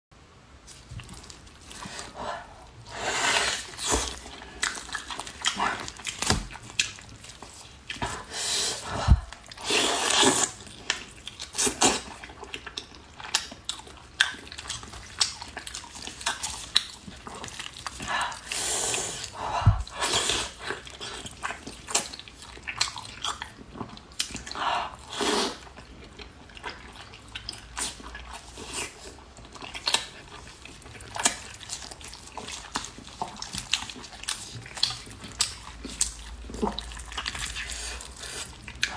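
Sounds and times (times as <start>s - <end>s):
person chewing: 0.7s - 38.9s.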